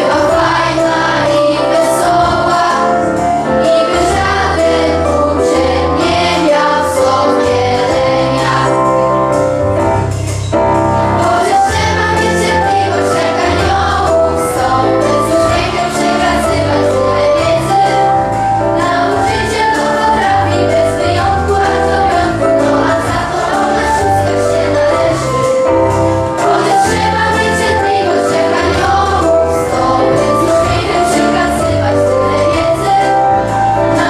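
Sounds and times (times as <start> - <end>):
children singing together: 0.0 - 9.2, 11.0 - 34.0.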